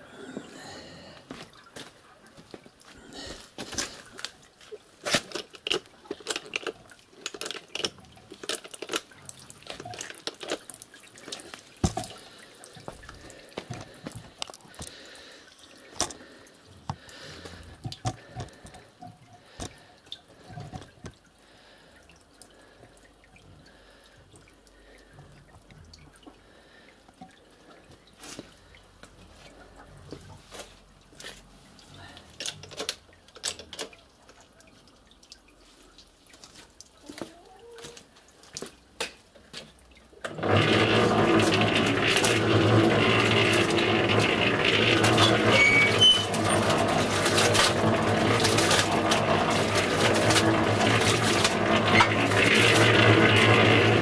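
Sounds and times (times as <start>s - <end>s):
water dripping: 0.0s - 45.4s.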